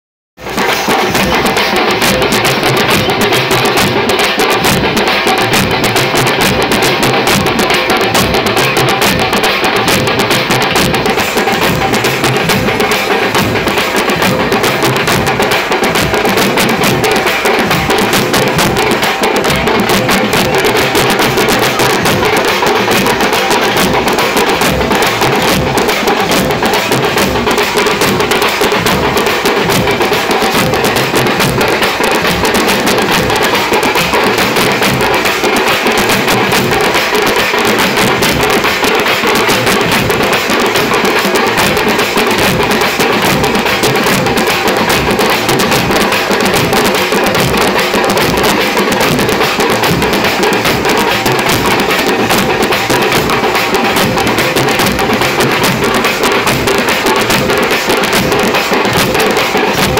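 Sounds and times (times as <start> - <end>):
frame drums beaten with sticks: 0.4 - 59.9.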